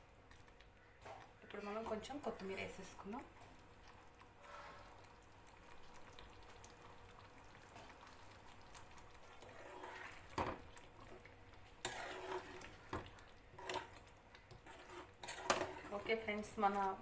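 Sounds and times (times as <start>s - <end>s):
gravy simmering in a pan: 0.0s - 17.0s.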